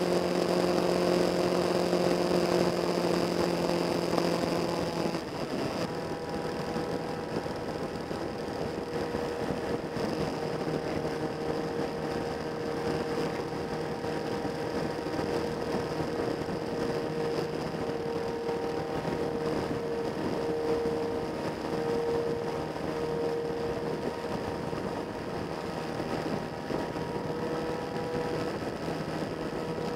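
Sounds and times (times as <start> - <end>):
motorcycle engine cruising: 0.0 - 29.9
wind and road noise: 0.0 - 29.9.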